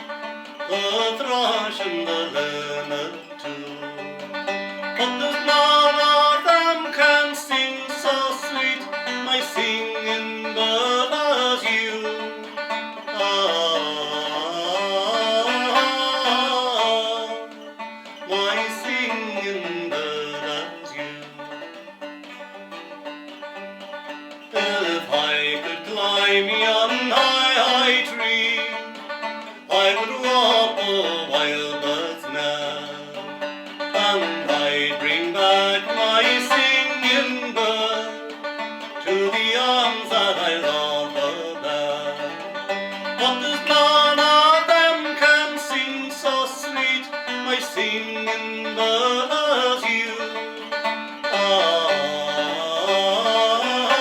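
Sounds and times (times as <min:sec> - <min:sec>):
plucked string melody: 0:00.0 - 0:54.0.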